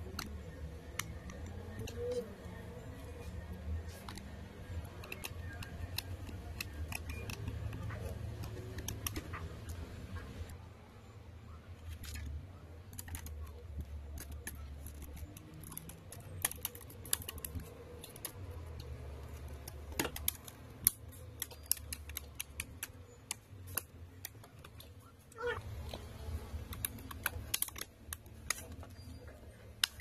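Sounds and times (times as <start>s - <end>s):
sharp clicks and light taps: 0.0s - 10.6s, 11.8s - 30.0s.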